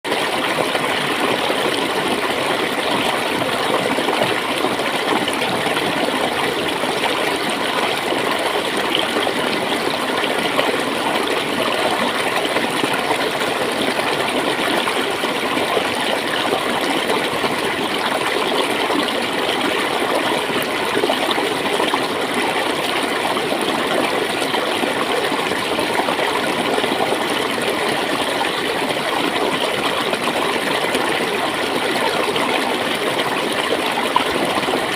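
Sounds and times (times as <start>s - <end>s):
water flowing and gurgling: 0.1s - 34.9s.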